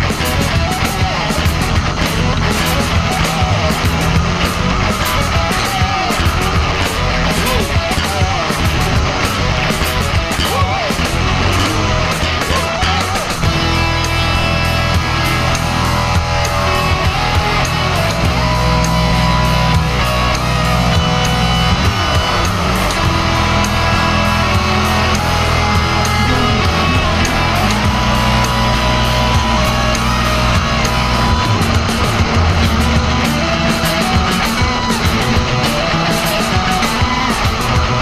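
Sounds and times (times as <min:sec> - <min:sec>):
heavy rock music: 0:00.0 - 0:38.0.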